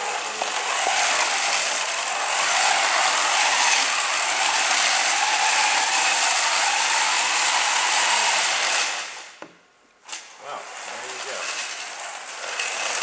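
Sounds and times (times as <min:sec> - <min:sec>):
robot motors rattling: 0:00.0 - 0:09.3, 0:10.1 - 0:13.0.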